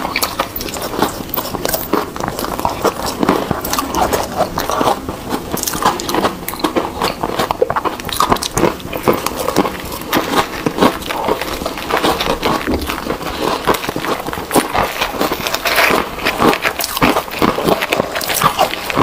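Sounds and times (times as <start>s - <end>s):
chewing crunchy ice: 0.0s - 19.0s.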